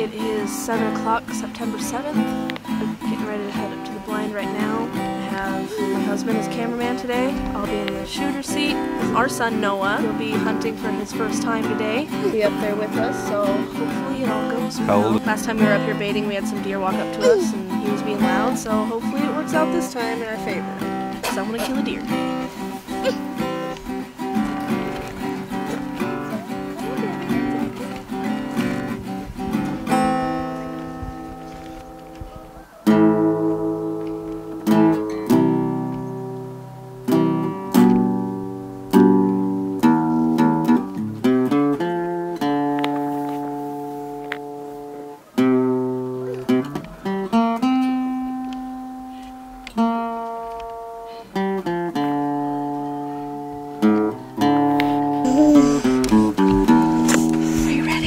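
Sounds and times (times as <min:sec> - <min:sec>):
acoustic guitar chords: 0:00.0 - 0:58.0.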